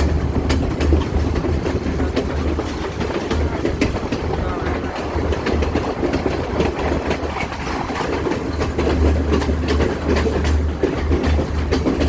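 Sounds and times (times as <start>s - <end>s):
train rumbling on rails: 0.0s - 12.0s
wheels clicking over rail joints: 0.0s - 12.0s.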